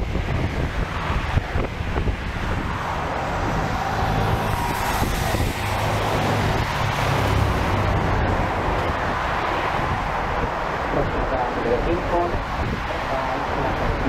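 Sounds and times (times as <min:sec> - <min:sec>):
bus engine humming: 0:00.0 - 0:14.0
wind on microphone: 0:00.0 - 0:14.0.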